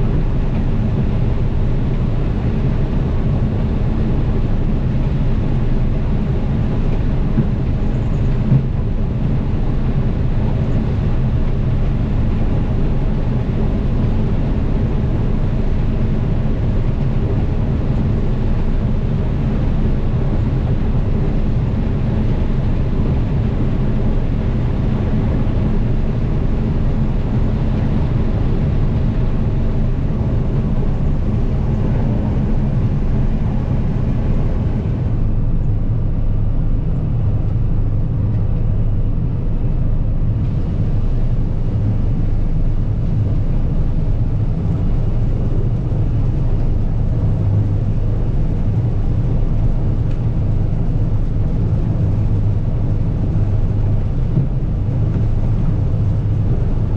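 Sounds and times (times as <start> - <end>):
combine harvester engine hum: 0.0 - 56.9.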